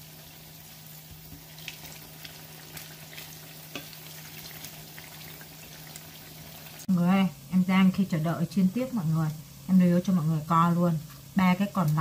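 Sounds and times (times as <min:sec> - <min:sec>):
fritters sizzling in oil: 0:00.0 - 0:12.0.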